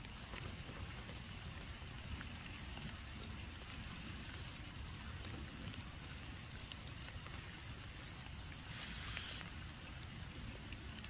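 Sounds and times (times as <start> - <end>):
light rain hiss: 0.0 - 11.0
raindrops ticking on leaf litter: 0.0 - 11.0.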